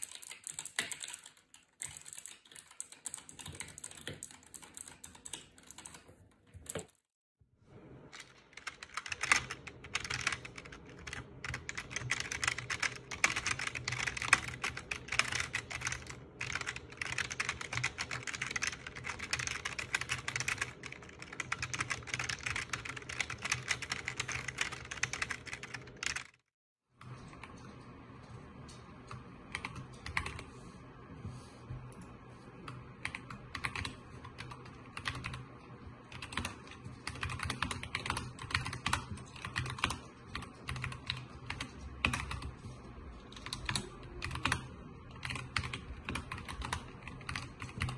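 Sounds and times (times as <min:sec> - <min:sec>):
fast typing on membrane keyboard: 0:00.0 - 0:07.0, 0:08.2 - 0:26.4, 0:33.0 - 0:35.4, 0:36.1 - 0:47.9
typing on mechanical keyboard: 0:00.0 - 0:07.0, 0:08.2 - 0:26.4, 0:29.5 - 0:30.4, 0:33.0 - 0:35.4, 0:36.1 - 0:47.9.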